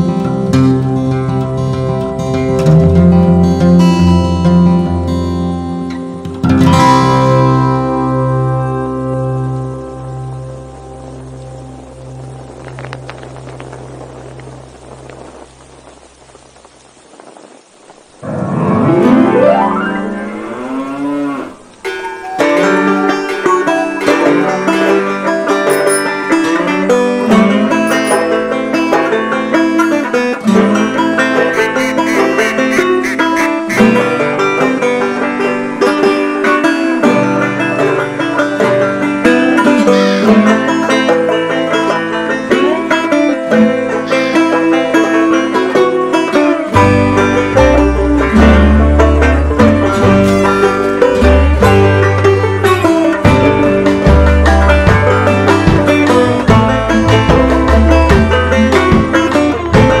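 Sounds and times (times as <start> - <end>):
background music: 0.0 - 13.3, 18.2 - 60.0.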